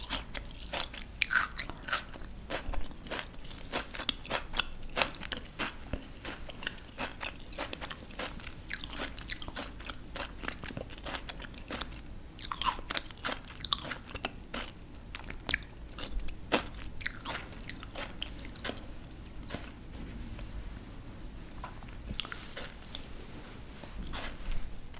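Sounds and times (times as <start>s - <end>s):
crunching raw vegetables: 0.0s - 19.9s, 21.5s - 23.1s.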